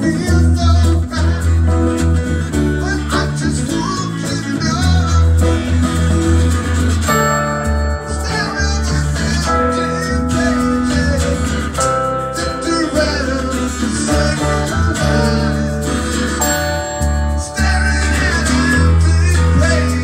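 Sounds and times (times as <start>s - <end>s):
acoustic guitar: 0.0s - 20.0s
stage piano: 0.0s - 20.0s.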